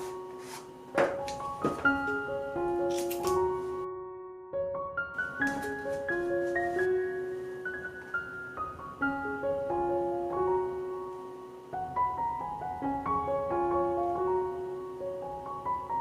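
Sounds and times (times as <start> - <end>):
slow solo piano melody: 0.0 - 16.0.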